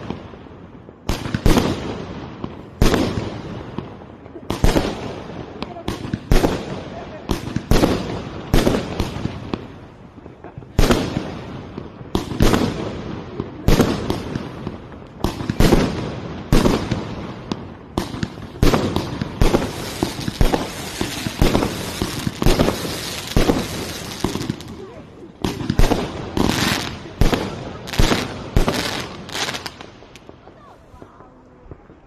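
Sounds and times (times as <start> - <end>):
fireworks bangs: 0.0 - 32.0.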